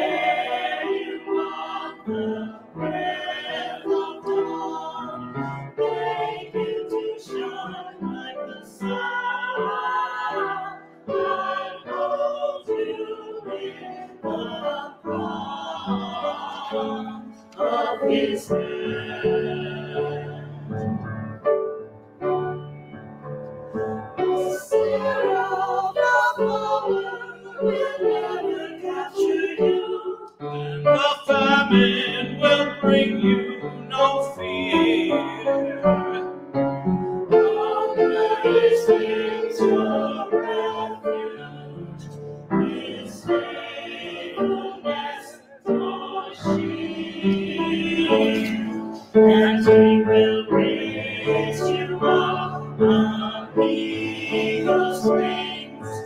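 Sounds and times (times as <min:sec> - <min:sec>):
choir singing: 0:00.0 - 0:56.0
piano accompaniment: 0:00.0 - 0:56.0.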